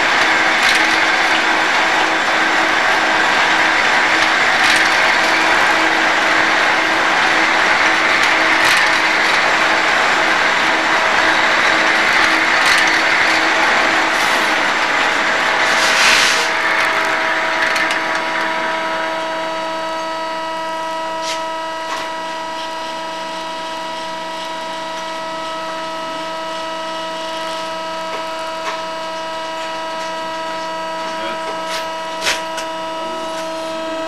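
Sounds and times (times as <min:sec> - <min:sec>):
lathe cutting metal wheel: 0:00.0 - 0:34.0
machine whine: 0:00.0 - 0:34.0.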